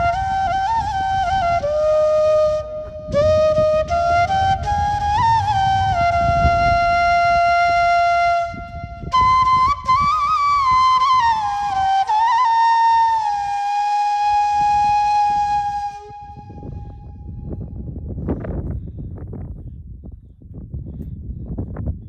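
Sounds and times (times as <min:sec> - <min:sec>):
solo flute melody: 0:00.0 - 0:17.9.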